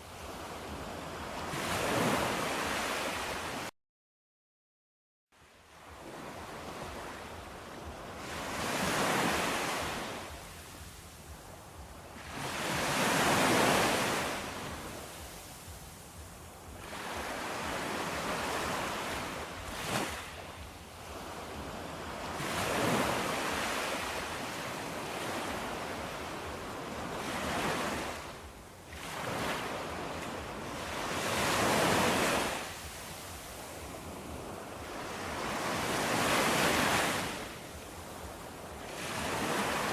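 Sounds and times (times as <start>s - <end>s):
ocean waves breaking: 0.0s - 3.7s, 5.4s - 39.9s.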